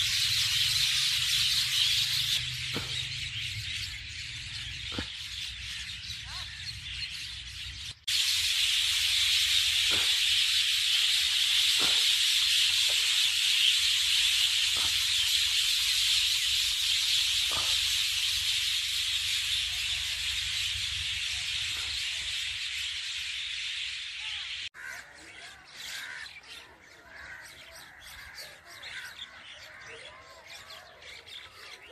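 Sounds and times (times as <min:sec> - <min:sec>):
flock of birds chattering: 0:00.0 - 0:31.9.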